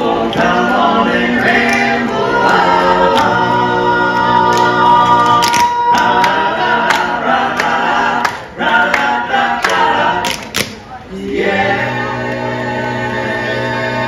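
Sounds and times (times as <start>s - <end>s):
male quartet singing a cappella: 0.0s - 14.0s.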